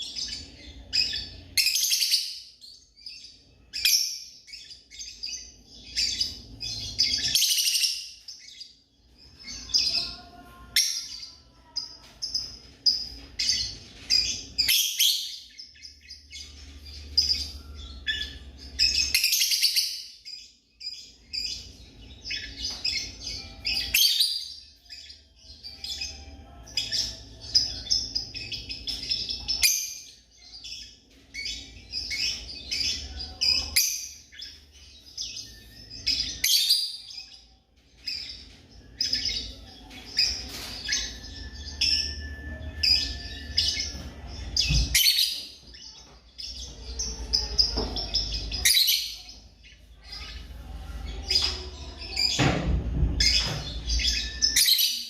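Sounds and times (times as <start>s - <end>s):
lovebirds chirping: 0.0s - 55.0s.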